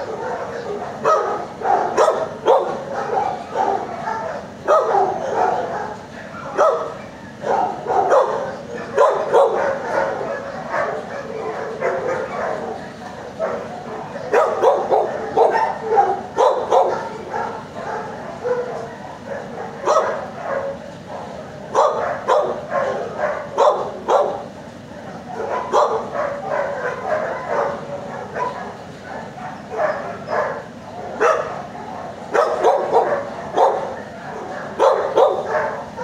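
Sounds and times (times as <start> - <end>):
dogs barking: 0.0 - 36.0.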